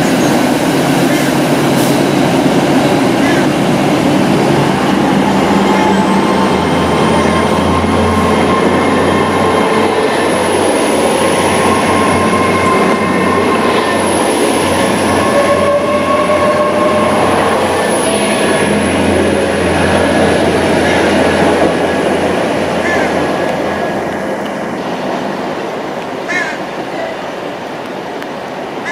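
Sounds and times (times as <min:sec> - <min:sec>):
high-pitched train whine: 0:00.0 - 0:28.9
train engine drone: 0:00.0 - 0:28.9.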